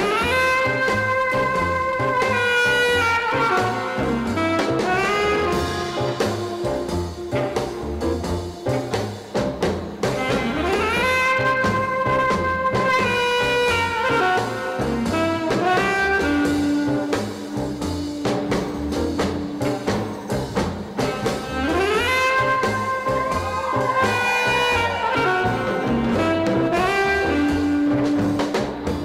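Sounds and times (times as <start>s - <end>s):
brass horns sliding: 0.0s - 29.0s
soft drums: 0.0s - 29.0s
walking bass: 0.0s - 29.0s.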